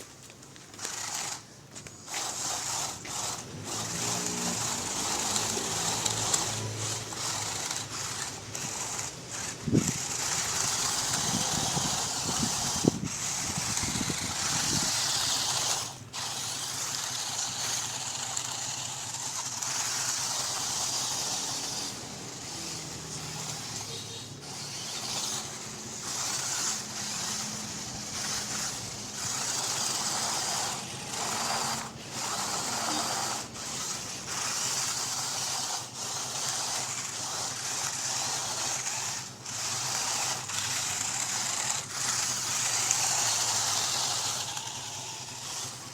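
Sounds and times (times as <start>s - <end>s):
electric motor and gears whining: 0.0s - 45.9s.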